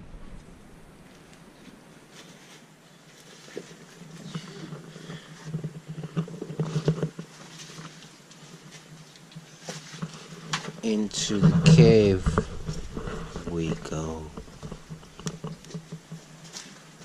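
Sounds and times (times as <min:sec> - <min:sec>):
footsteps rustling leaf litter: 0:01.0 - 0:05.4, 0:06.4 - 0:17.0.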